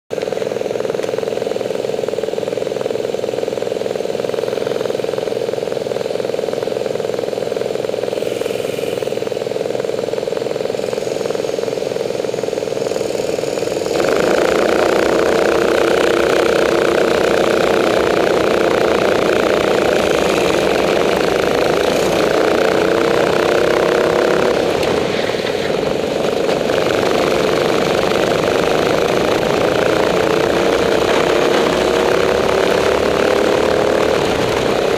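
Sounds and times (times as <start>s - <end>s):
go-kart engines: 0.1s - 34.9s.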